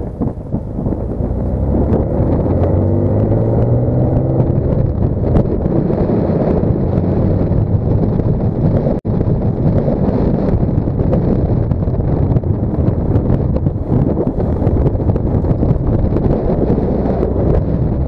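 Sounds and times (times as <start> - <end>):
car road noise: 0.0 - 18.0
engine hum: 0.0 - 18.0
wind rushing over camera: 0.0 - 18.0.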